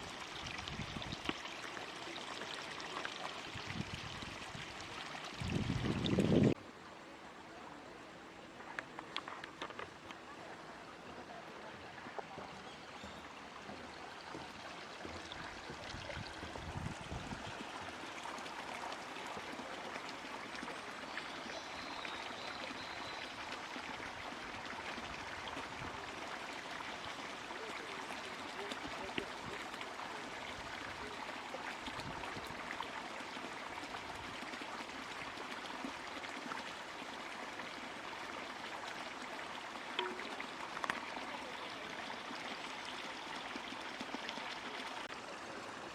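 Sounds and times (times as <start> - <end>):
stream babbling over stones: 0.0 - 6.6, 8.7 - 45.9.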